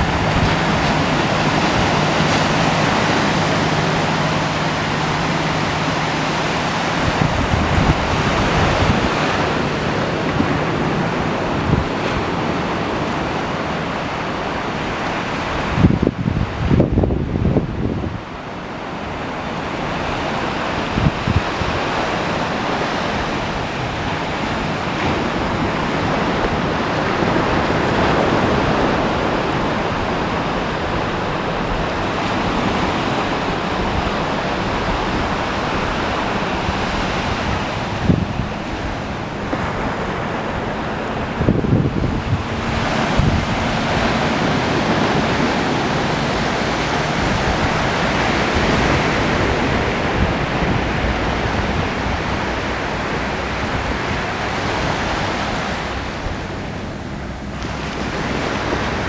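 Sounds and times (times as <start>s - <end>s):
ocean surf breaking on beach: 0.0s - 59.0s
wind hitting microphone: 0.0s - 59.0s.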